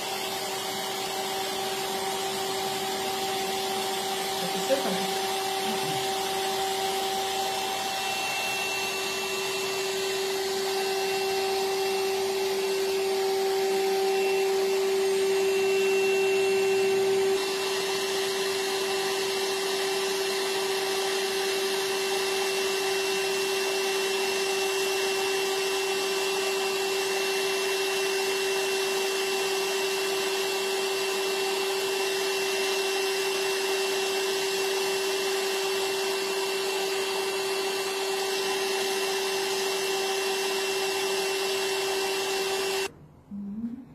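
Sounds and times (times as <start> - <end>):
laser machine whirring and humming: 0.0 - 42.9.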